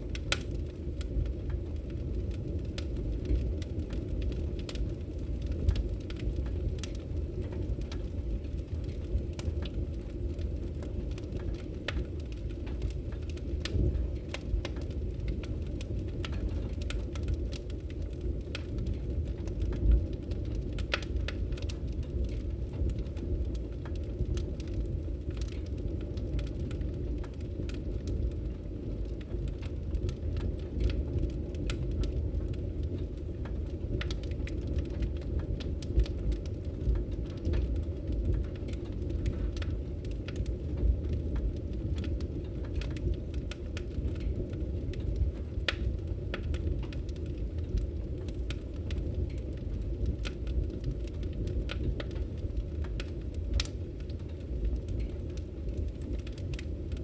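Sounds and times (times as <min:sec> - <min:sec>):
wood fire burning: 0:00.0 - 0:57.0.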